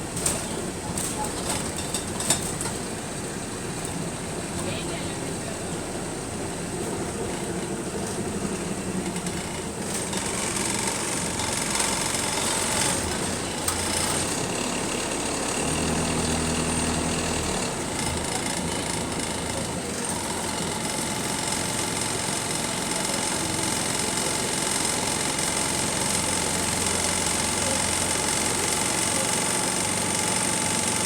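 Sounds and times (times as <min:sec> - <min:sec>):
bus engine running: 0:00.0 - 0:31.0.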